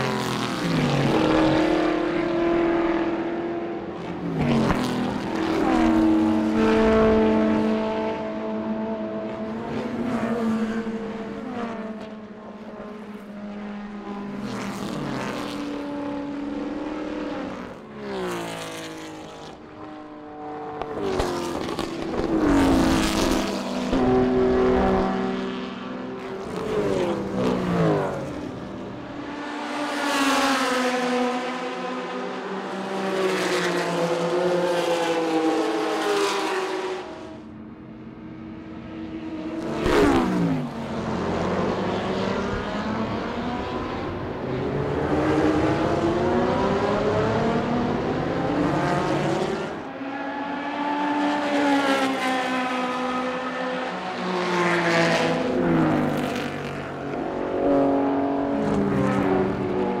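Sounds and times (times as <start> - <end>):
racing cars passing at speed: 0.0 - 60.0.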